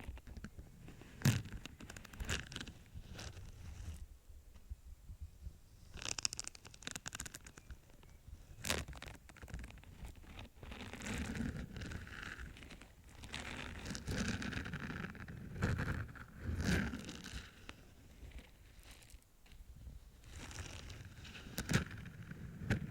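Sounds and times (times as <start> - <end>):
scratching and rubbing: 0.0 - 4.0, 5.9 - 19.2, 20.1 - 22.9.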